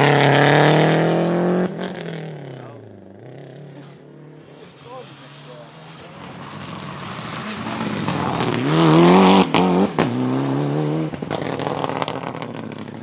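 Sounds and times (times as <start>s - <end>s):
rally car engine at full throttle: 0.0s - 13.0s.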